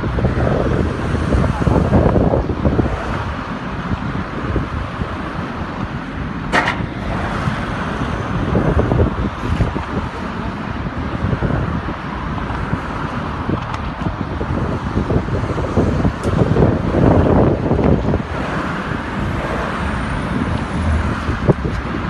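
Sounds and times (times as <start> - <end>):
road traffic: 0.0 - 22.0
truck engines running: 0.0 - 22.0
wind on microphone: 0.0 - 22.0.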